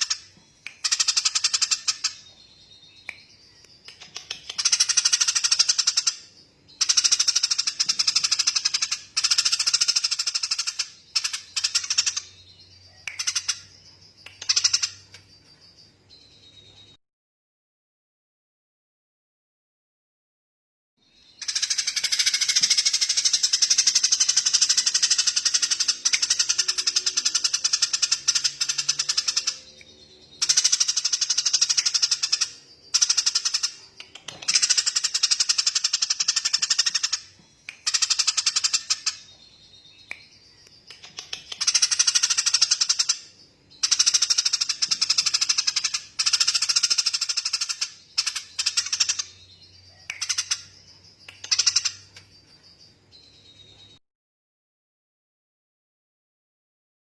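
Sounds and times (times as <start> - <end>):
songbird chattering trill: 0.0 - 17.0, 21.1 - 54.0.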